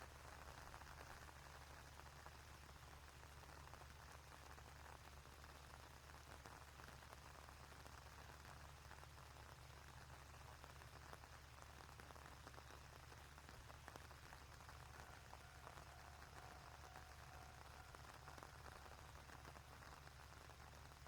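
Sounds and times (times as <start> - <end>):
rain patter: 0.0 - 21.0.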